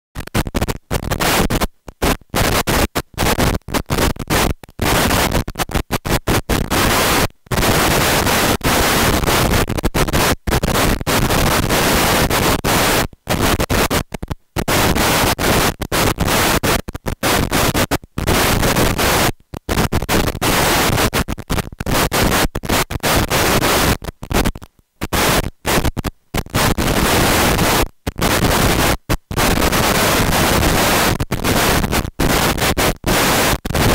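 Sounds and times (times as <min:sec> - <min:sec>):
harsh static noise: 0:00.2 - 0:33.9.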